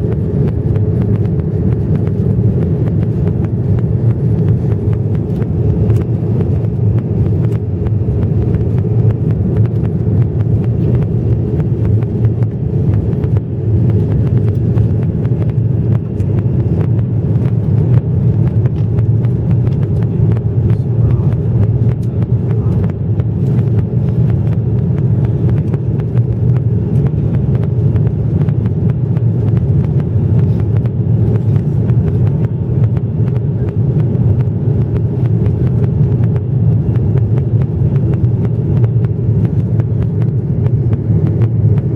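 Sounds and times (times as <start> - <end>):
jet engine rumble in cabin: 0.0 - 41.9.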